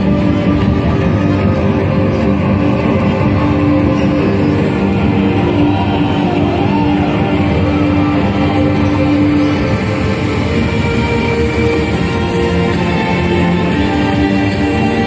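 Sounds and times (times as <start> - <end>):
loud show music: 0.0 - 15.0.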